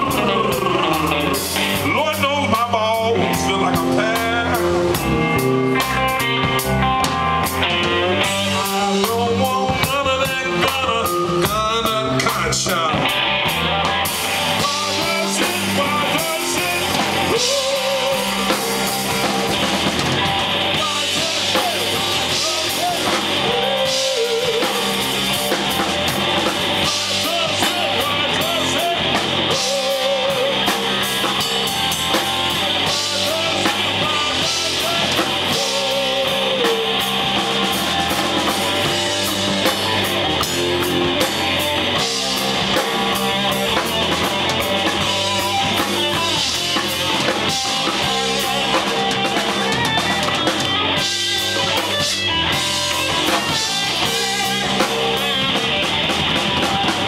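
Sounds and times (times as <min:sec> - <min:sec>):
drum kit: 0:00.0 - 0:57.0
loud electric guitar: 0:00.0 - 0:57.0.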